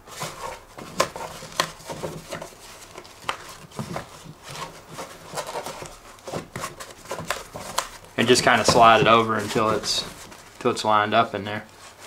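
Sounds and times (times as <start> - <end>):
styrofoam taps and scrapes on plastic: 0.2 - 10.3.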